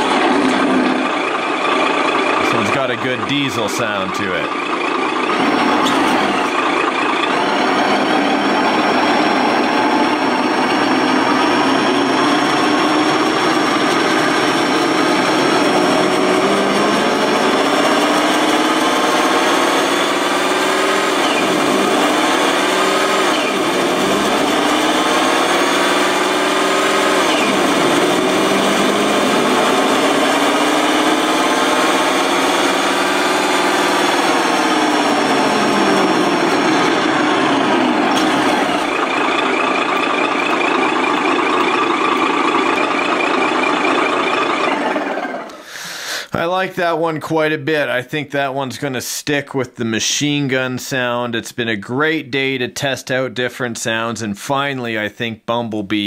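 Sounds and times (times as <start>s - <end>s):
simulated diesel engine revving: 0.0s - 46.4s.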